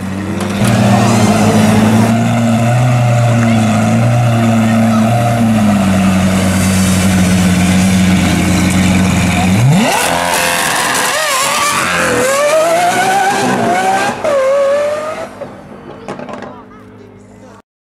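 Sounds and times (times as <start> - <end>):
sports car engine revving: 0.1 - 15.4.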